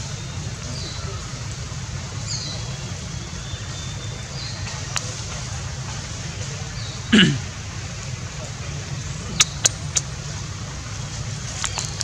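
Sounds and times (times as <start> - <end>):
constant hiss: 0.0 - 12.0
low outdoor rumble: 0.0 - 12.0.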